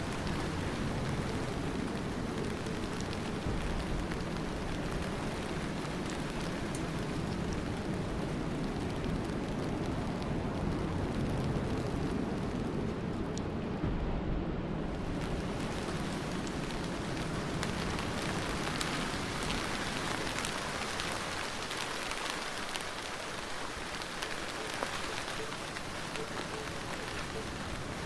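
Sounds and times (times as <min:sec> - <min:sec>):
rain pattering on a surface: 0:00.0 - 0:13.8, 0:14.9 - 0:28.0.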